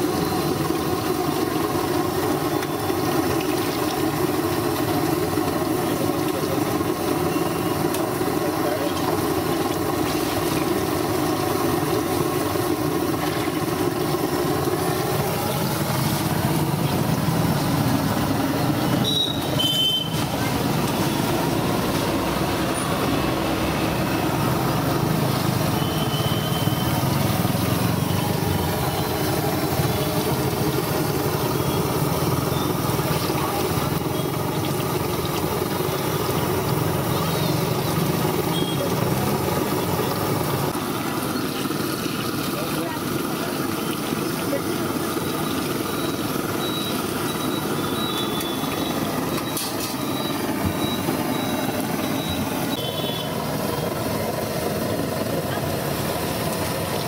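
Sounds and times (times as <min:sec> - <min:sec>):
battered chillies sizzling in hot oil: 0:00.0 - 0:57.0.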